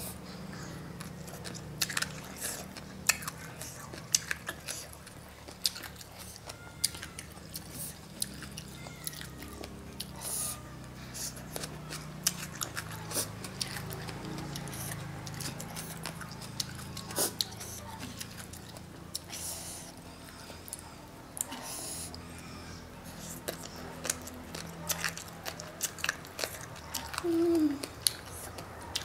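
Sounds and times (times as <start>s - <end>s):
close-up chewing: 0.0s - 29.0s.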